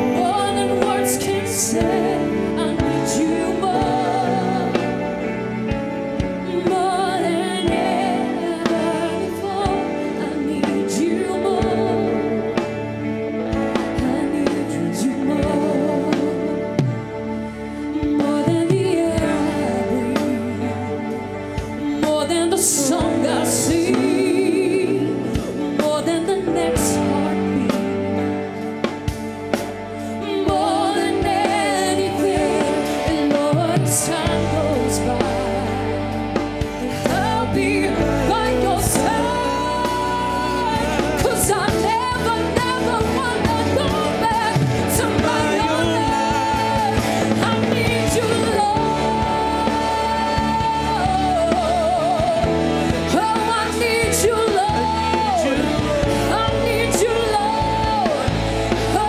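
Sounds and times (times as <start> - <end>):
band playing gospel music: 0.0 - 59.0.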